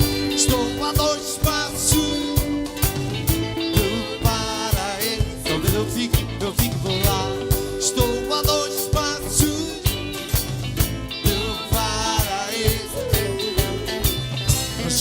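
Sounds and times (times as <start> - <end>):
person singing: 0.0 - 10.4, 11.1 - 15.0
steady drum beat: 0.0 - 15.0.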